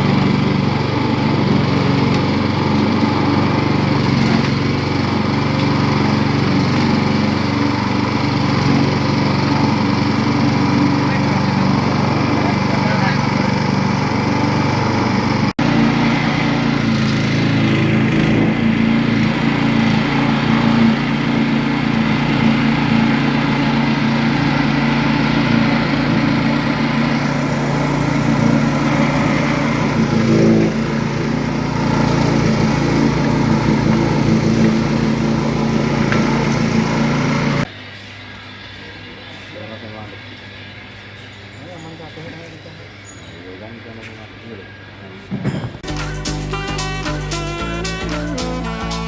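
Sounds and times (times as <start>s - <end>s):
small engine running under load: 0.0s - 49.0s.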